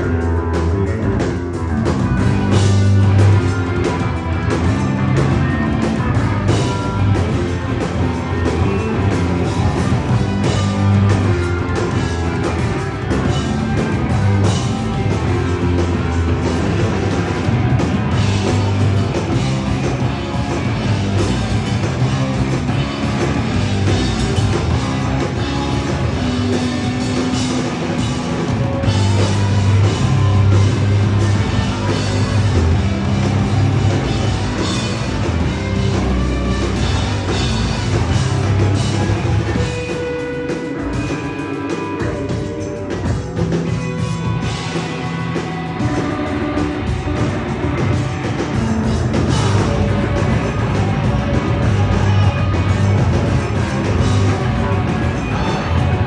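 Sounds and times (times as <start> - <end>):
drum kit: 0.0 - 56.0
electric guitars: 0.0 - 56.0.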